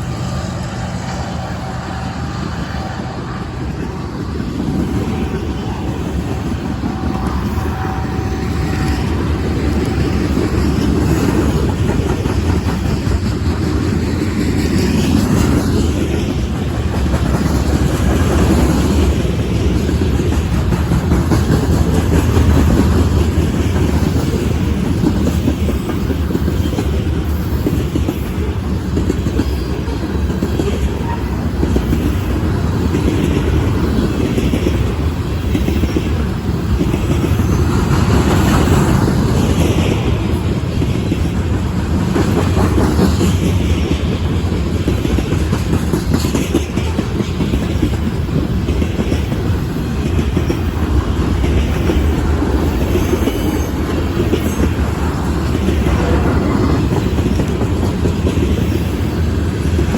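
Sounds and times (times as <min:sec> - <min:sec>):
freight train cars rolling past: 0:00.0 - 0:59.9
steel wheels clacking over rail joints: 0:00.0 - 0:59.9.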